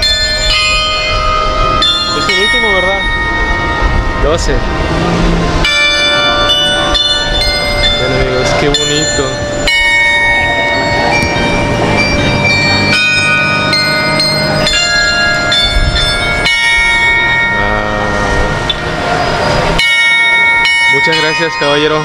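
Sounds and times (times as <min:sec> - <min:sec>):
carillon bells playing a melody: 0:00.0 - 0:22.0.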